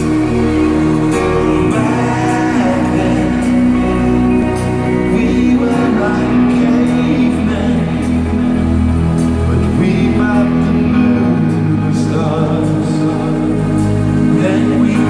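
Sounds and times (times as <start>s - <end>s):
men singing: 0.0s - 8.9s, 9.6s - 15.0s
live pop concert music: 0.0s - 15.0s.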